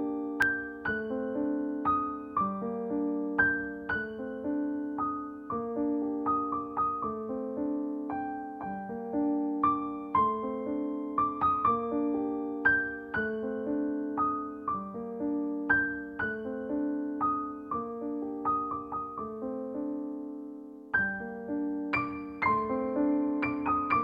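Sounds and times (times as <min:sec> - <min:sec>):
calm keyboard melody: 0:00.0 - 0:24.0.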